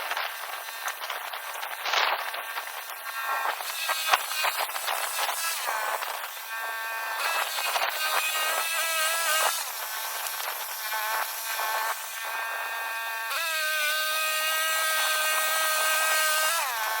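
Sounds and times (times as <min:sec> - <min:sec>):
band sawmill whining: 0:02.6 - 0:17.0.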